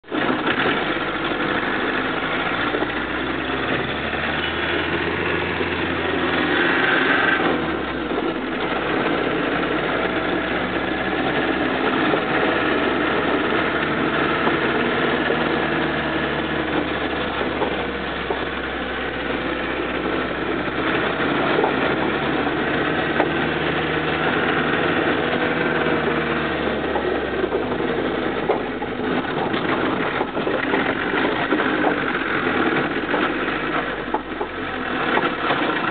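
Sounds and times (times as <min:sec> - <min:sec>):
car engine running: 0:00.0 - 0:35.9
road noise: 0:00.0 - 0:35.9.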